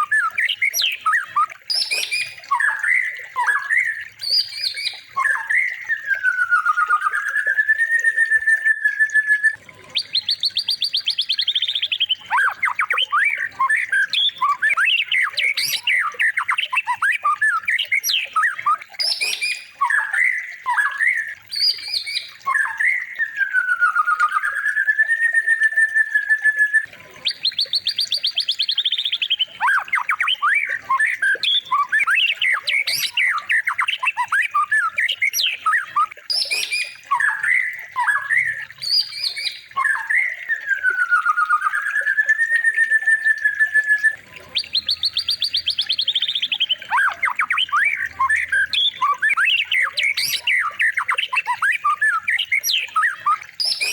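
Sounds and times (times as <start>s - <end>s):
recorded songbird song: 0.0s - 53.9s.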